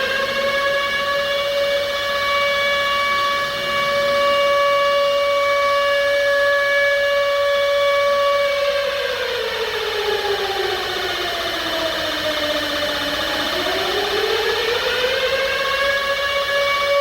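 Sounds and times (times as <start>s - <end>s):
civil defense siren steady wail: 0.0s - 17.0s.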